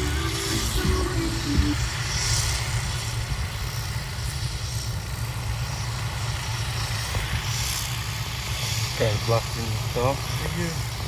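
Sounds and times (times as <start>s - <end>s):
helicopter flying overhead: 0.0s - 11.0s.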